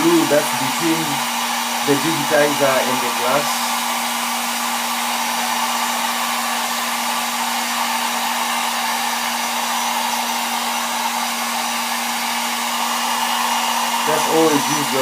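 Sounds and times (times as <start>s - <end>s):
hair dryer blowing: 0.0s - 15.0s.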